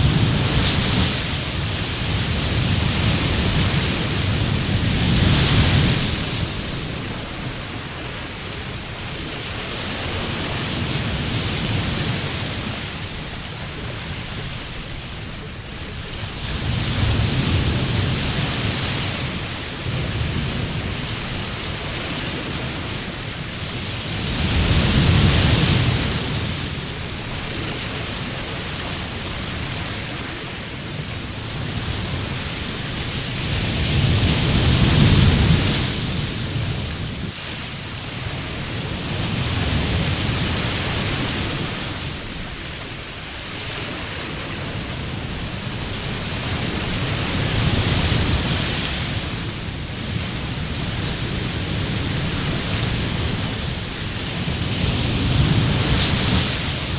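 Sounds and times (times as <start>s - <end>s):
waves breaking on a beach: 0.0s - 56.9s.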